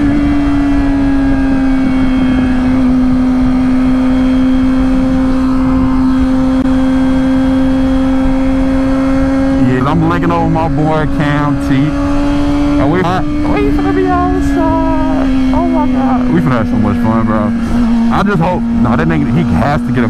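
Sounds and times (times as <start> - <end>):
motorcycle engine at high rpm: 0.0 - 20.0
wind noise: 0.0 - 20.0.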